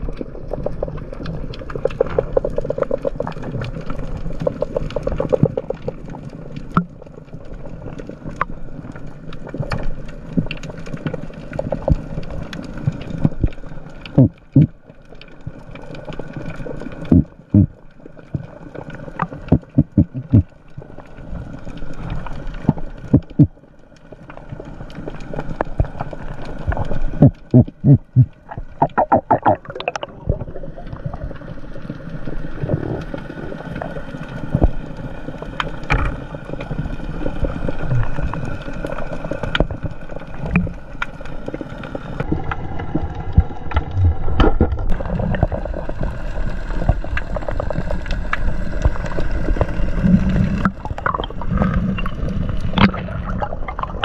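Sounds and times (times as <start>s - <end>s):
rough underwater noise: 0.0s - 54.0s.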